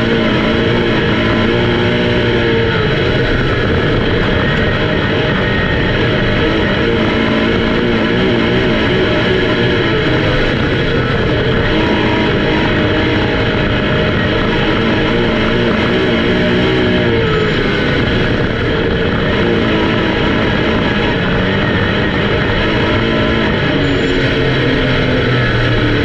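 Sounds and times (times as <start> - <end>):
race car engines: 0.0 - 26.0
rock music with guitar: 0.0 - 26.0.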